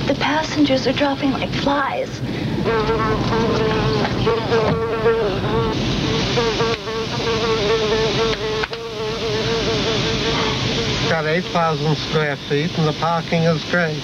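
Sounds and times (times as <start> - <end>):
steady hiss: 0.0 - 14.0
buzzing drone: 2.6 - 14.0.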